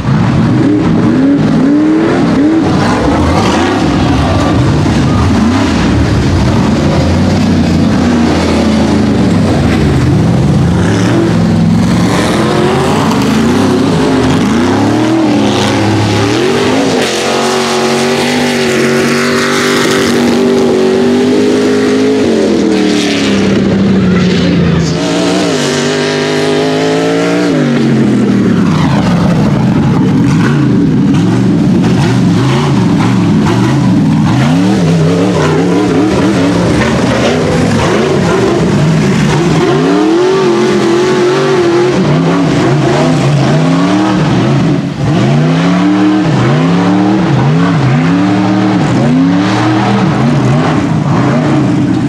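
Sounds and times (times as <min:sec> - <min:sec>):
buggy engine revving: 0:00.0 - 0:52.0.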